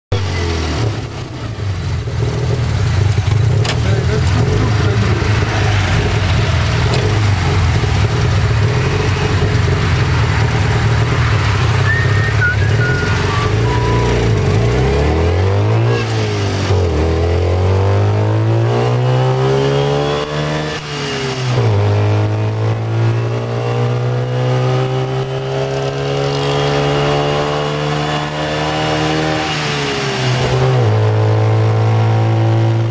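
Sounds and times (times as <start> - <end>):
road and wind noise: 0.1 - 32.9
tuk tuk engine: 0.1 - 32.9.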